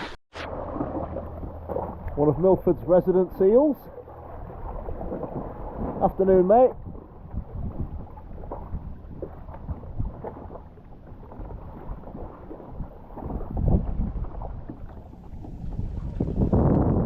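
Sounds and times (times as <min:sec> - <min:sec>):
water lapping around kayak: 0:00.0 - 0:17.0
wind rumbling on microphone: 0:00.4 - 0:17.0
small knocks and splashes: 0:00.5 - 0:02.9, 0:03.8 - 0:16.8.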